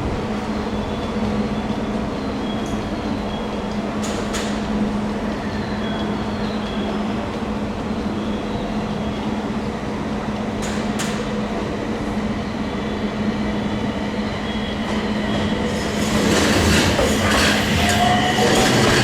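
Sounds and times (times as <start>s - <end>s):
train running with low hum: 0.0s - 19.0s.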